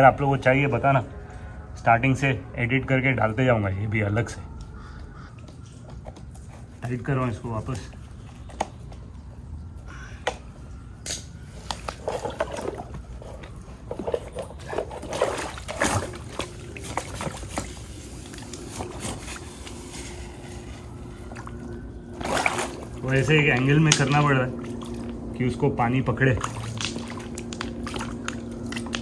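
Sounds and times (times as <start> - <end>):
water sloshing and trickling: 3.0 - 29.0.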